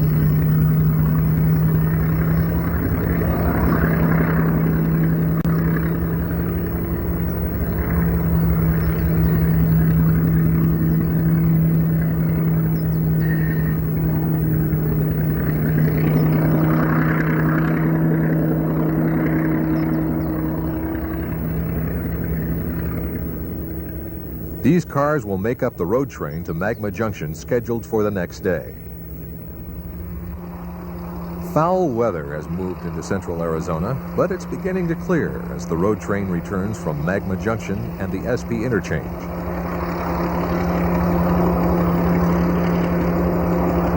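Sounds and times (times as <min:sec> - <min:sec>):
diesel locomotive engine humming: 0:00.0 - 0:43.9.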